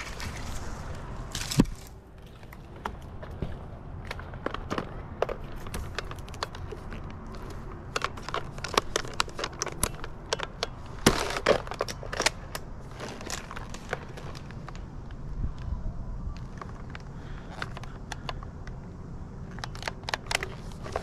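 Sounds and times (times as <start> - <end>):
dry twigs and bark snapping: 0.0 - 3.0, 4.0 - 18.8, 19.4 - 21.0.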